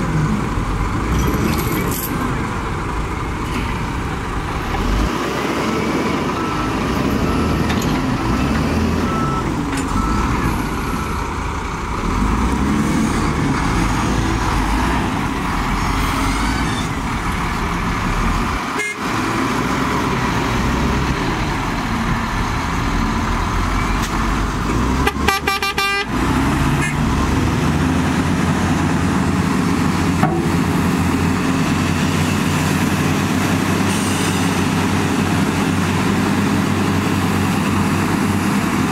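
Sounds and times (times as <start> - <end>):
heavy diesel engines straining: 0.0 - 38.9.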